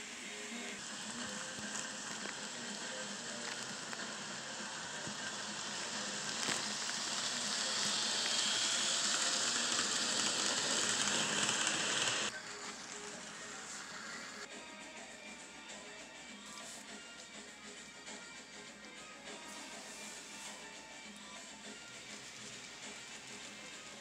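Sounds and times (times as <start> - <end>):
model train rushing on rails: 0.0 - 14.5, 19.0 - 24.0.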